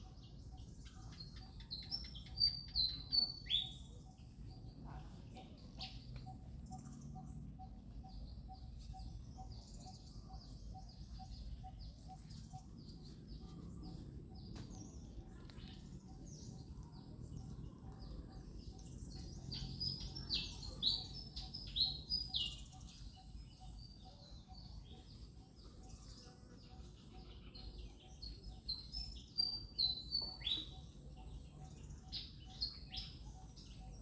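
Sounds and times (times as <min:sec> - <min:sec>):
faint overlapping chirps: 0:00.0 - 0:34.0.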